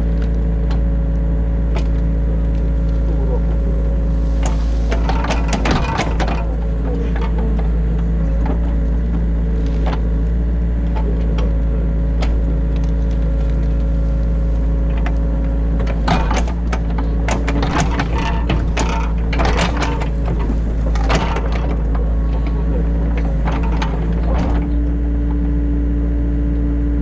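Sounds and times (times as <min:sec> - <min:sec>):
excavator diesel engine running: 0:00.0 - 0:27.0
excavator bucket clatter and knocks: 0:00.1 - 0:25.4.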